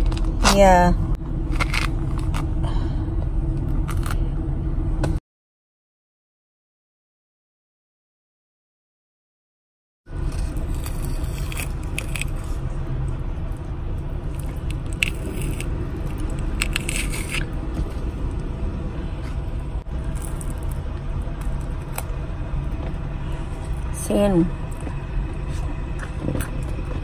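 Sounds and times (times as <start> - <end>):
vehicle engine rumble: 0.0 - 5.2, 10.1 - 27.0.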